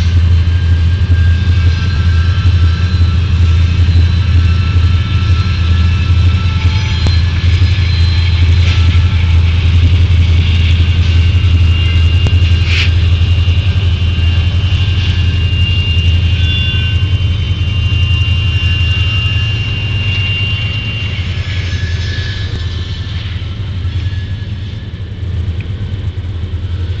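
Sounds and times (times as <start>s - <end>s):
freight train rumbling past: 0.0s - 27.0s
steel wheel squeal: 0.0s - 27.0s.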